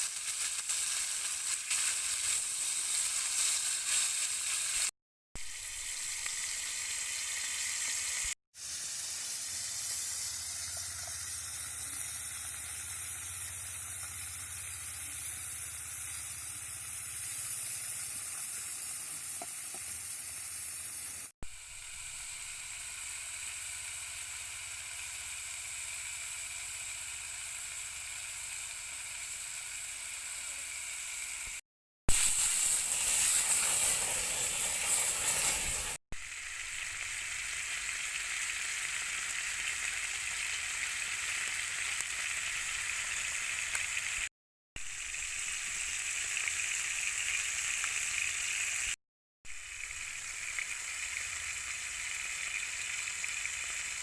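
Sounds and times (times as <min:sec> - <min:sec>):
steak sizzling: 0:00.0 - 0:30.8, 0:32.1 - 0:54.0.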